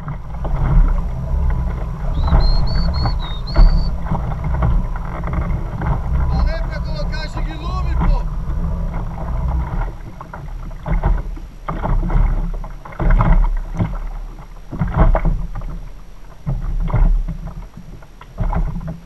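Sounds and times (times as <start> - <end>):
water slapping kayak hull: 0.0 - 19.0
wind rumbling on microphone: 0.0 - 19.0.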